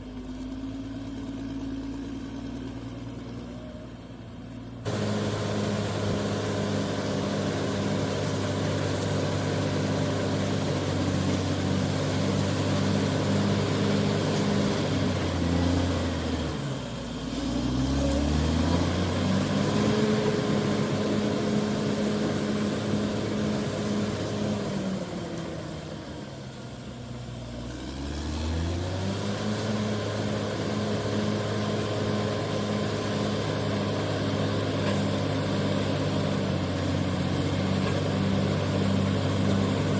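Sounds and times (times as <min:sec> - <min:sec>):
heavy vehicle engine revving: 0:04.6 - 0:26.2, 0:27.2 - 0:39.9.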